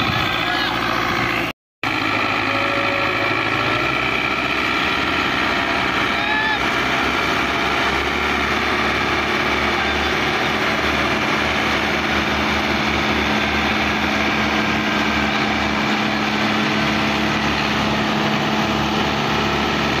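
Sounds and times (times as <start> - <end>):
diesel tractor engines running: 0.0 - 20.0.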